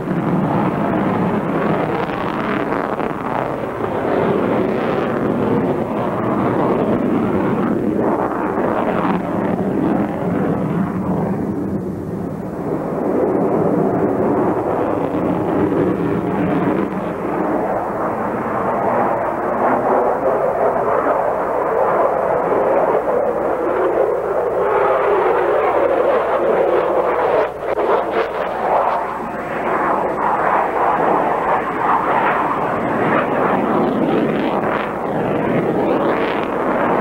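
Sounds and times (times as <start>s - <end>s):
jet flying overhead: 0.0s - 37.0s.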